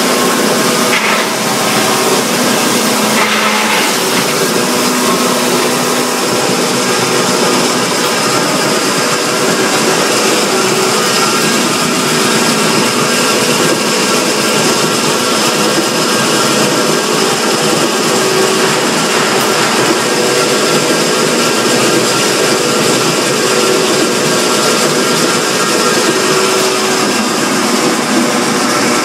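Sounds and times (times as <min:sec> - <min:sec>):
log crusher machine drone: 0:00.0 - 0:29.0.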